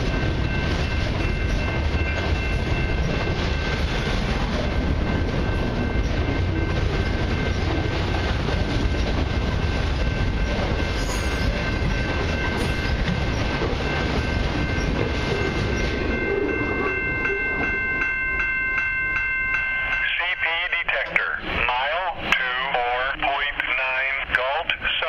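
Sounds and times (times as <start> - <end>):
high ringing tones: 0.0 - 21.5
freight train wheels rumbling: 0.0 - 25.0.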